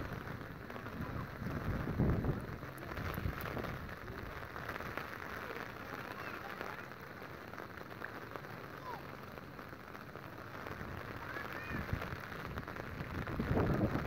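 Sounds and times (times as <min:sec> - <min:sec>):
rain falling on wet street: 0:00.0 - 0:14.0.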